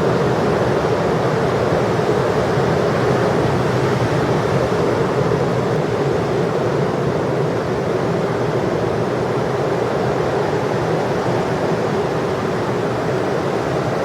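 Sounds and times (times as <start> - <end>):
heavy ocean surf roaring: 0.0 - 14.0.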